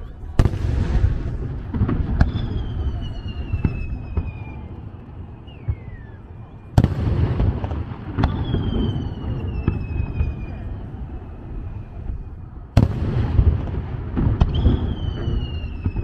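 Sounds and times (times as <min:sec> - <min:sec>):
descending firework whistles: 0:00.0 - 0:16.0
low rumble and crackle: 0:00.0 - 0:16.0.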